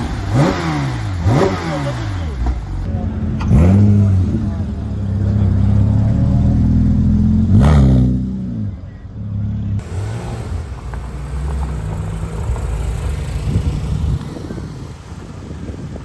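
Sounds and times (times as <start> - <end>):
sports car passing by: 0.2 - 16.0.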